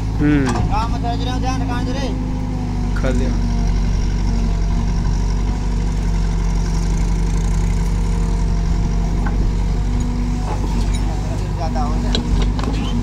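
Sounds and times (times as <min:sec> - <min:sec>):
diesel engines running: 0:00.0 - 0:13.0
backhoe hydraulics working: 0:02.1 - 0:13.0.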